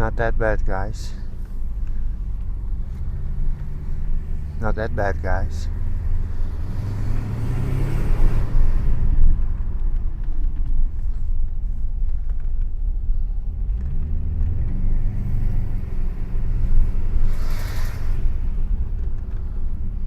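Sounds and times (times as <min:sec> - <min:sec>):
car engine with loud exhaust: 0:00.0 - 0:20.0.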